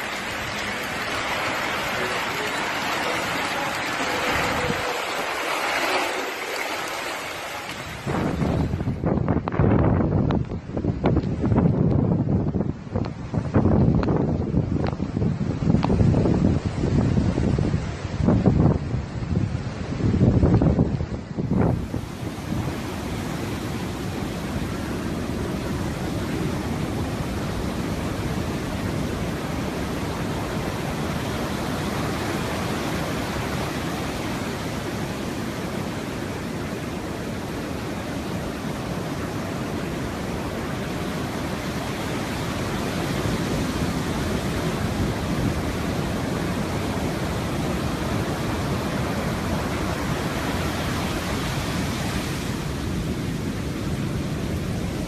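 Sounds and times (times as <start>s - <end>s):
heavy rain: 0.0s - 55.0s
hurricane wind: 0.0s - 55.0s.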